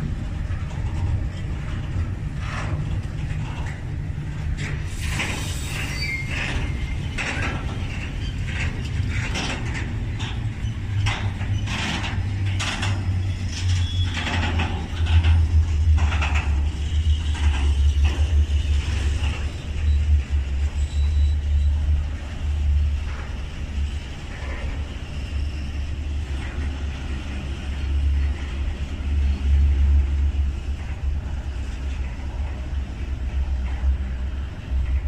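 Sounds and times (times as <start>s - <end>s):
freight train rumbling: 0.0s - 35.0s.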